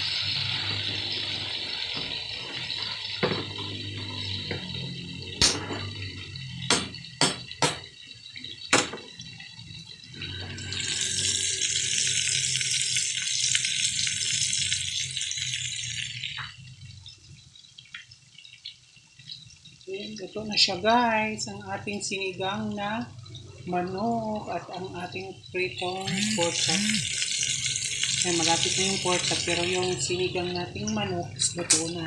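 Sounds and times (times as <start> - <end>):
meat sizzling in hot oil: 0.0 - 32.0
pot boiling and bubbling: 0.0 - 32.0.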